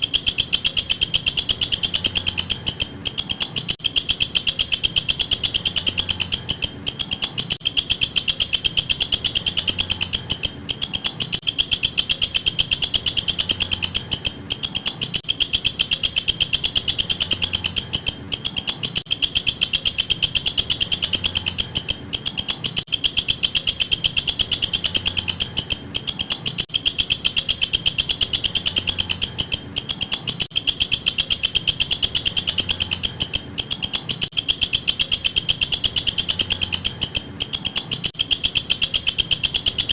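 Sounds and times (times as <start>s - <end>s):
insect trilling: 0.0s - 39.9s.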